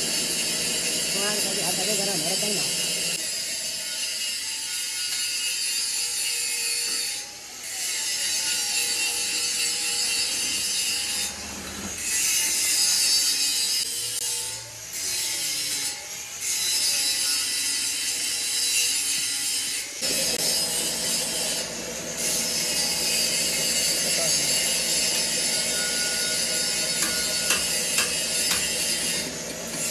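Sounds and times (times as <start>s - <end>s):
metal being cut or ground: 0.0s - 29.9s.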